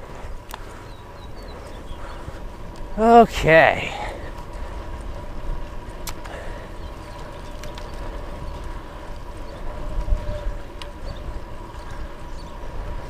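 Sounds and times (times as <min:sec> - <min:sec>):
tyres rolling on asphalt: 0:00.0 - 0:13.0
wind buffeting microphone: 0:00.0 - 0:13.0.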